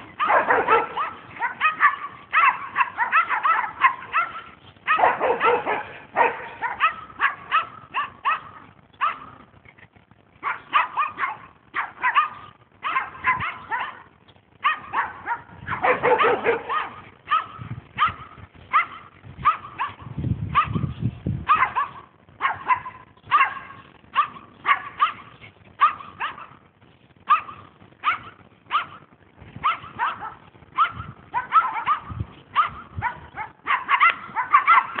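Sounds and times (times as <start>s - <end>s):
small dogs yapping: 0.0s - 9.5s, 10.4s - 26.6s, 27.3s - 35.0s.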